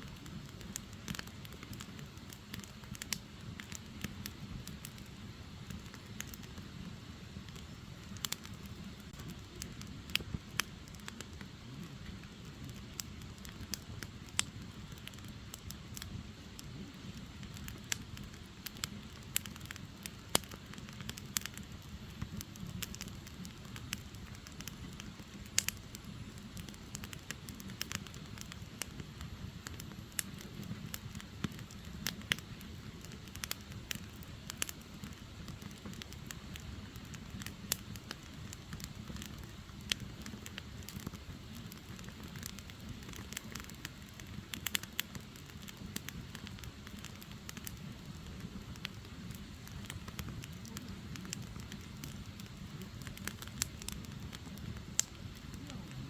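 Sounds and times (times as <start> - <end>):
firewood crackling and popping: 0.0 - 56.0
low fire noise: 0.0 - 56.0.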